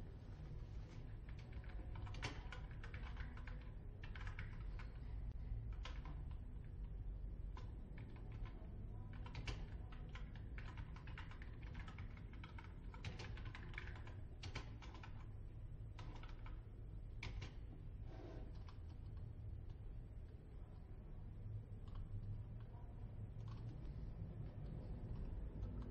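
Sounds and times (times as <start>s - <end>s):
steady low hum: 0.0s - 25.9s
typing on computer keyboard: 0.9s - 17.8s, 18.4s - 20.8s, 21.7s - 25.9s.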